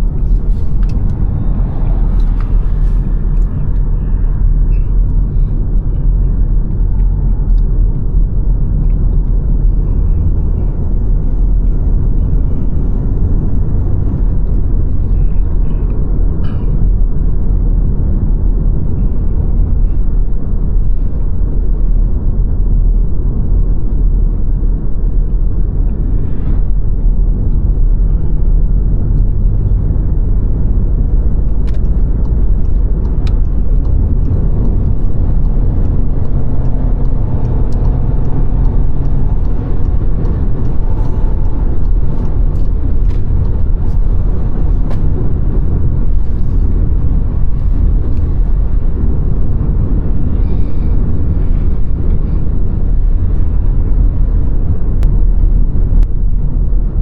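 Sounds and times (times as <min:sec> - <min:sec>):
car driving road rumble: 0:00.0 - 0:57.0.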